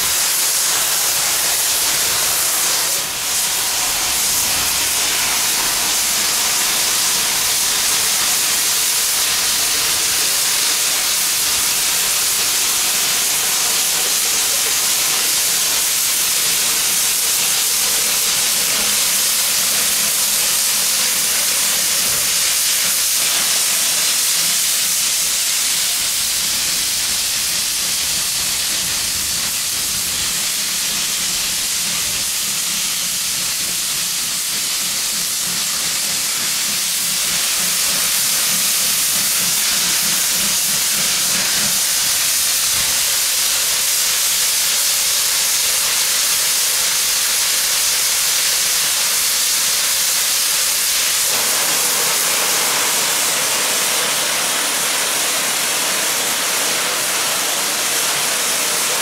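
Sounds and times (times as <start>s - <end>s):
steam hissing from locomotive: 0.0s - 59.0s.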